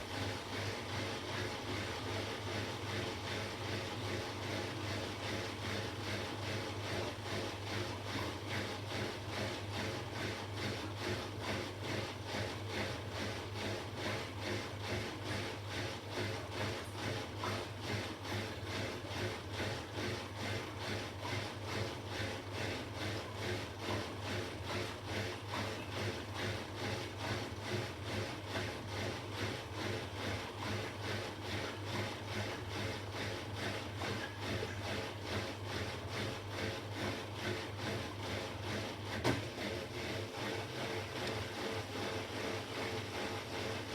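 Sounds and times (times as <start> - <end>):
appliance rhythmic chugging: 0.0 - 43.9.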